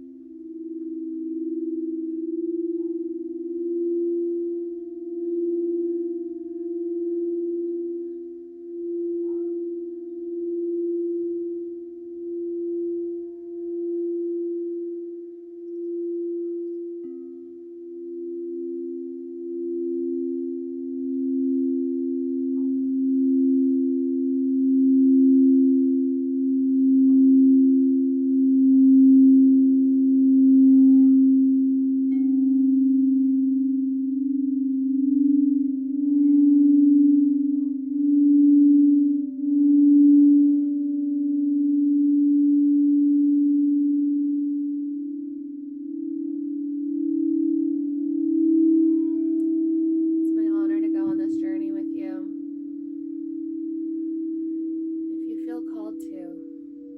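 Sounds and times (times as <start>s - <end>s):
lower singing bowl: 0.0s - 56.9s
singing bowl tone: 0.0s - 56.9s.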